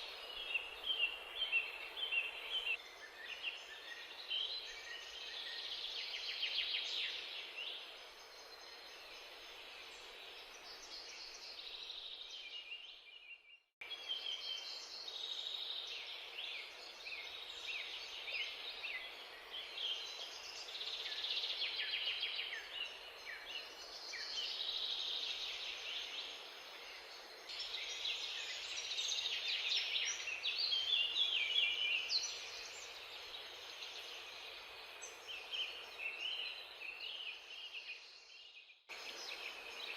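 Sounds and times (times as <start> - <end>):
background hiss: 0.0 - 12.8, 13.8 - 39.9
small birds chirping: 0.0 - 39.9.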